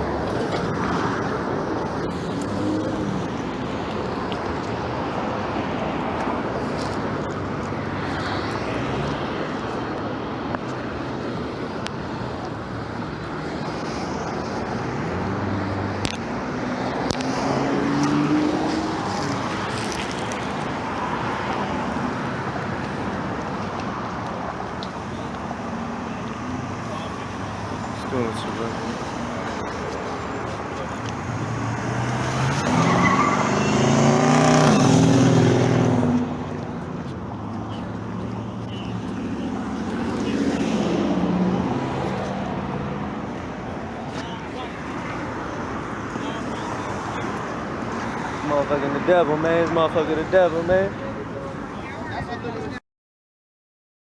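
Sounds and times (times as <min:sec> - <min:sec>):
cars passing: 0:00.0 - 0:52.8.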